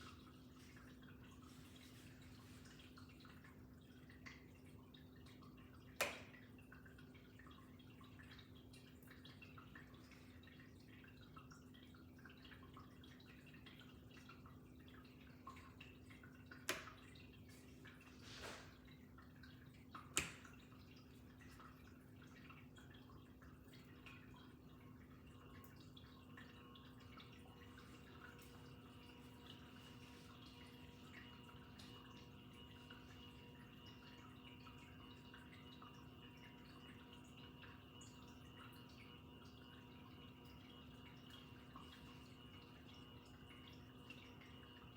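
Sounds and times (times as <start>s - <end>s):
ceiling fan humming: 0.0s - 44.9s.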